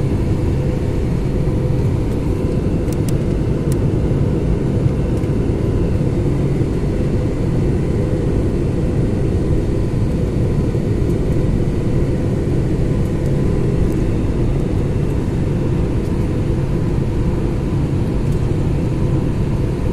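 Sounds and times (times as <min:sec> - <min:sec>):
jet cabin rumble: 0:00.0 - 0:19.9.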